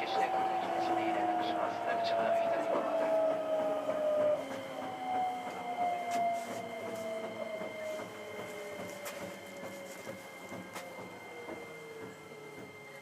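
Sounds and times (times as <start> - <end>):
electric train motors whining: 0.0 - 13.0.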